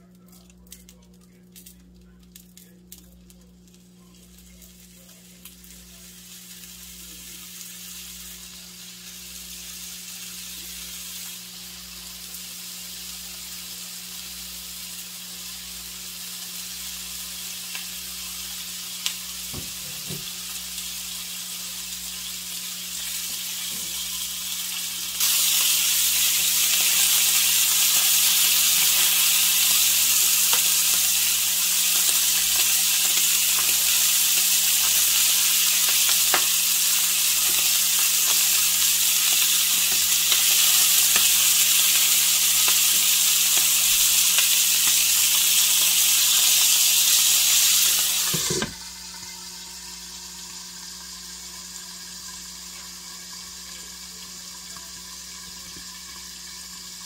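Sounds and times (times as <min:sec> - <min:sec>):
meat sizzling in a frying pan: 0:03.7 - 0:57.0.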